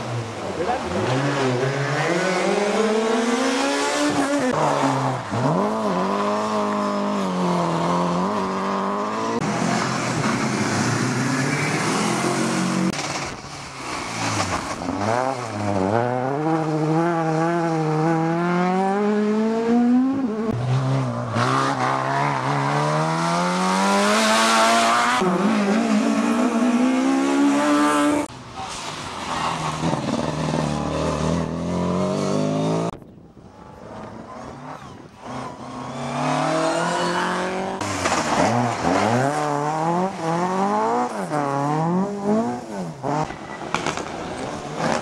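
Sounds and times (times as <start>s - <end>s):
rally car engines revving: 0.0s - 33.0s, 33.6s - 45.0s.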